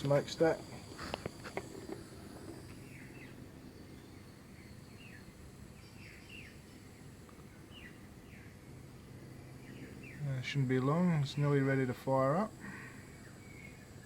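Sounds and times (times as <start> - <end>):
faint bird chirps: 0.0 - 14.0
low steady background noise: 0.0 - 14.0.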